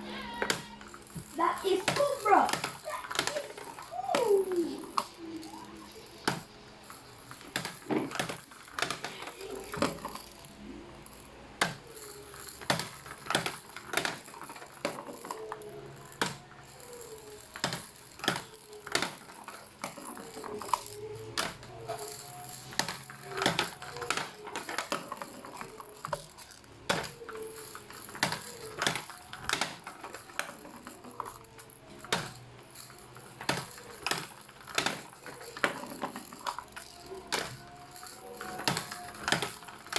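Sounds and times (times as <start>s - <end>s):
balls clicking on plastic track: 0.0s - 39.9s
plastic balls rolling on ramps: 0.0s - 39.9s.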